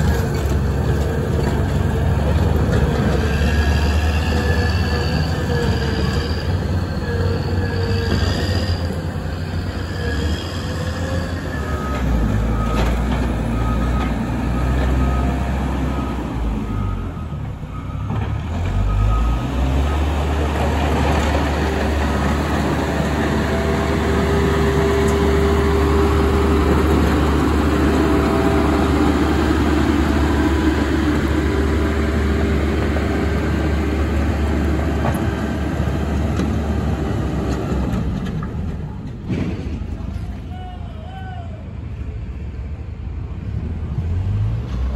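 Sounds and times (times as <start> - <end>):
diesel engine running under load: 0.0 - 10.0, 10.7 - 40.5.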